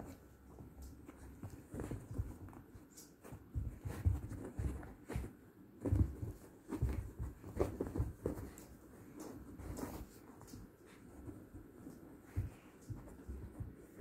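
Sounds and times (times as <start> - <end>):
puppies play-fighting on fabric: 0.0 - 14.0.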